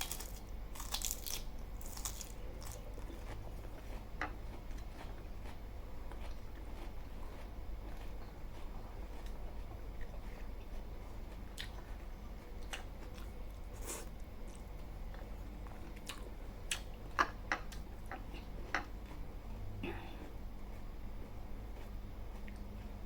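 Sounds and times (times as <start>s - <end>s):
person chewing and eating: 0.0s - 23.0s.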